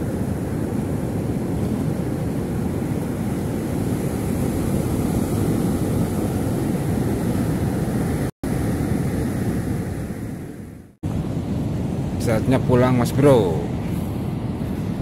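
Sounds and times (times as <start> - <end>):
sea surf roaring: 0.0 - 15.0
wind buffeting microphone: 0.0 - 15.0.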